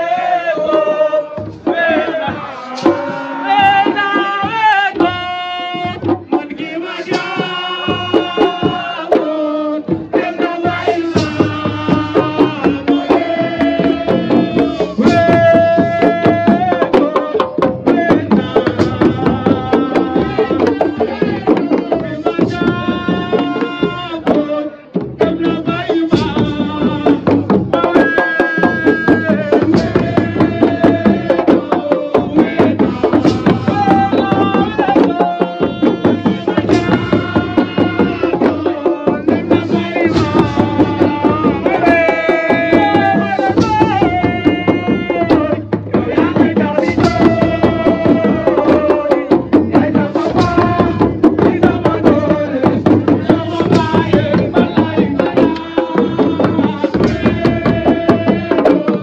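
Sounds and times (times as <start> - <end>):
man singing: 0.0 - 59.0.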